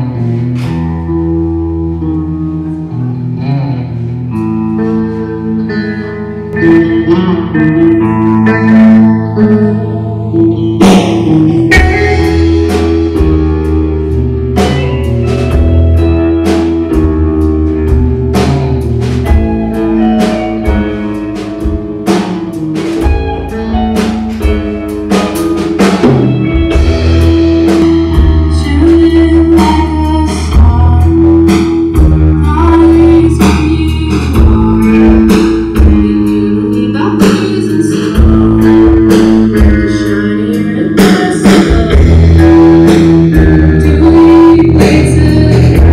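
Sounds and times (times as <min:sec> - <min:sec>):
bass guitar: 0:00.0 - 0:45.9
electric guitars: 0:00.0 - 0:45.9
drum kit beat: 0:04.3 - 0:45.9.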